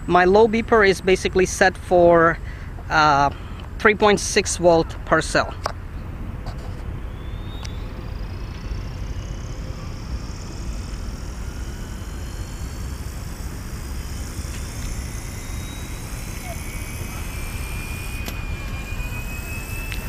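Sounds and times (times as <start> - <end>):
helicopter motor whine: 0.0 - 20.0.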